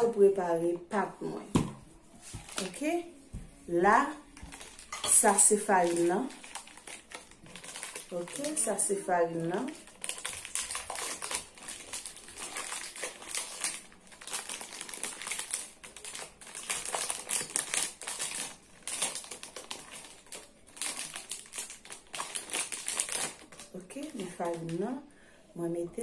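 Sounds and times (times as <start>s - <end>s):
plastic packaging crinkling: 2.4s - 2.9s, 4.2s - 25.0s.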